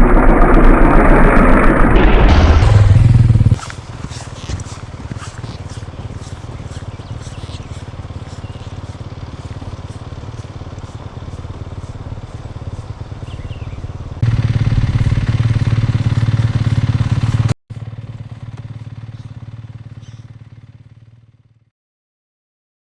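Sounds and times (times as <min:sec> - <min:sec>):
motorcycle engine running: 0:00.0 - 0:21.7.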